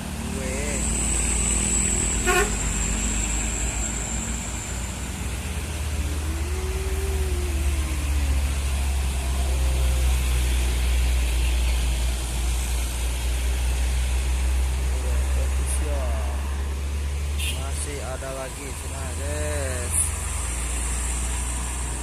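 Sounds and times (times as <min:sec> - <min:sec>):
heavy vehicle engine droning: 0:00.0 - 0:22.0.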